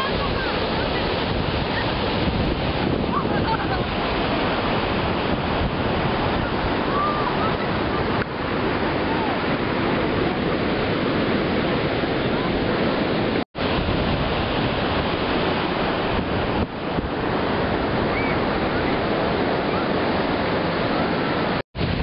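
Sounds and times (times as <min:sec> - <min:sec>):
ocean surf: 0:00.0 - 0:22.0
wind on the microphone: 0:00.0 - 0:22.0.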